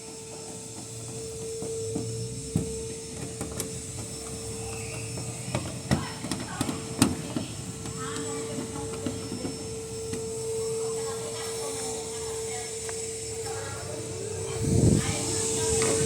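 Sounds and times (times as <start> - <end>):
electric hum: 0.0 - 16.0.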